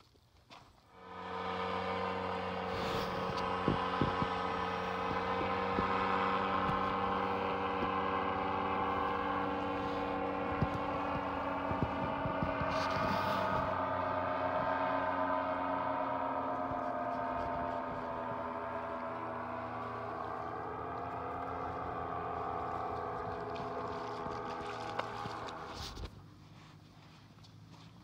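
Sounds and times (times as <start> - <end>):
paramotor engines droning overhead: 0.8 - 28.0.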